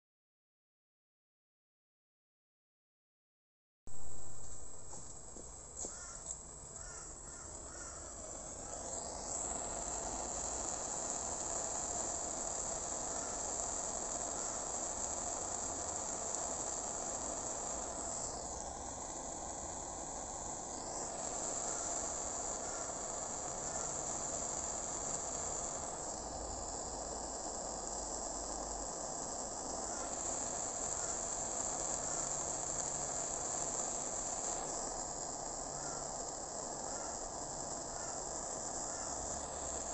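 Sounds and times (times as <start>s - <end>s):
gas torch flame hissing: 4.0s - 39.9s.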